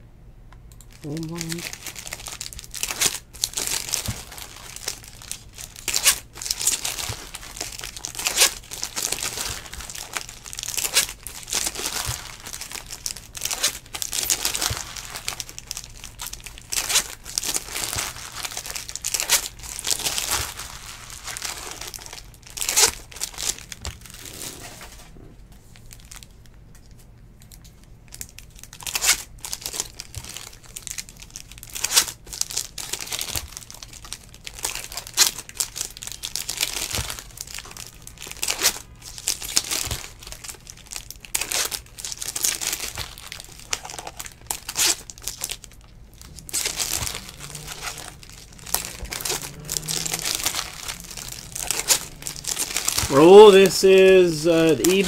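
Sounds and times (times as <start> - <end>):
foil wrappers crinkling and tearing: 0.9 - 55.0.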